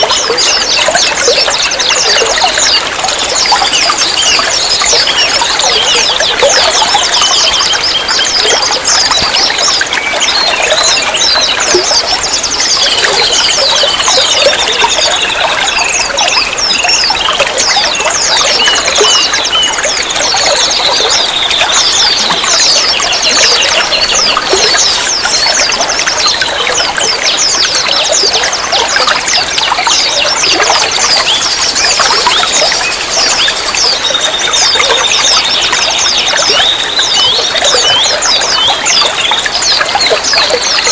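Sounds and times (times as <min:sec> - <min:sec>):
running water trickling and splashing: 0:00.0 - 0:40.9
songbirds chirping and whistling: 0:00.0 - 0:40.9.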